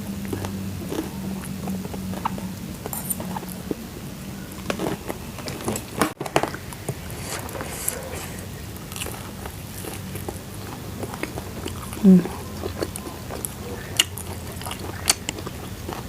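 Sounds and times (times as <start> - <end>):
crunching and chewing: 0.0 - 16.0
low steady hum: 0.0 - 16.0.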